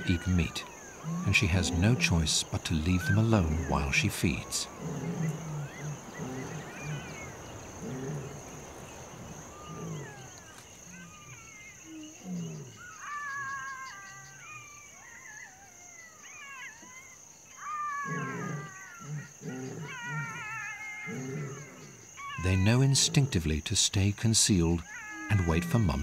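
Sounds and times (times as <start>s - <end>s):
insect trill: 0.0s - 26.0s
lion cubs mewing: 0.0s - 26.0s.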